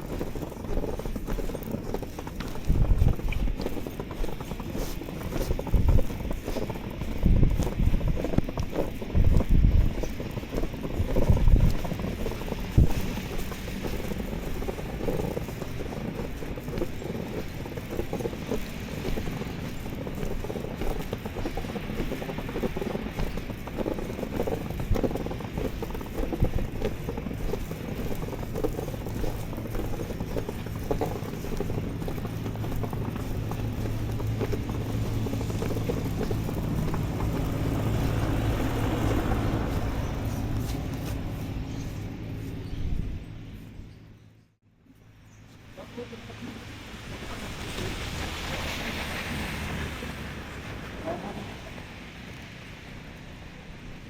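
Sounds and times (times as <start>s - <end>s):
footsteps in snow: 0.0s - 44.4s
vehicle engine humming: 0.0s - 54.0s.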